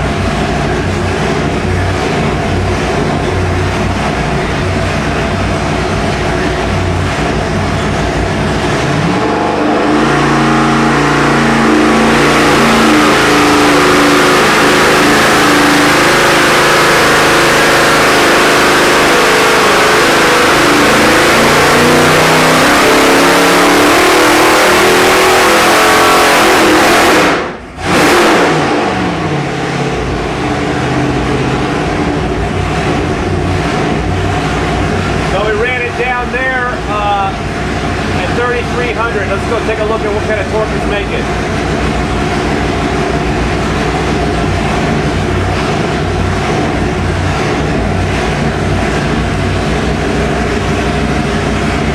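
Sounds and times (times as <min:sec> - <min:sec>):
engine revving under load: 0:00.0 - 0:51.9.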